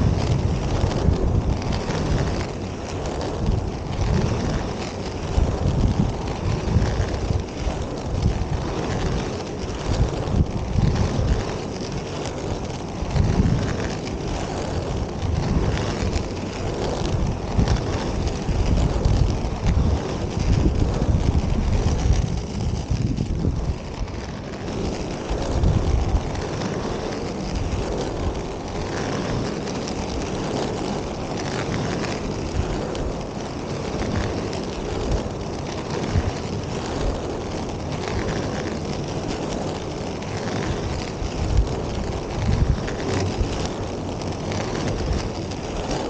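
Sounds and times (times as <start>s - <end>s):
inline skate wheels rolling on asphalt: 0.0s - 46.0s
wind buffeting microphone: 0.0s - 46.0s.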